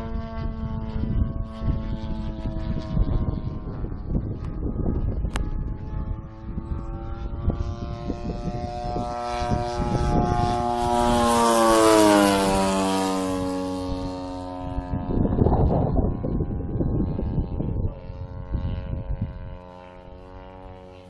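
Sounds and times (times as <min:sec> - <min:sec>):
model plane engine and propeller: 0:00.0 - 0:21.0.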